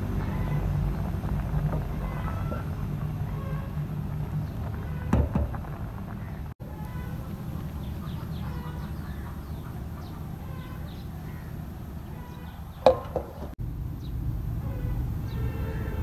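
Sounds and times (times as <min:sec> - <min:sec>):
steady low rumble: 0:00.0 - 0:12.2, 0:13.5 - 0:16.0
birds chirping: 0:00.0 - 0:16.0.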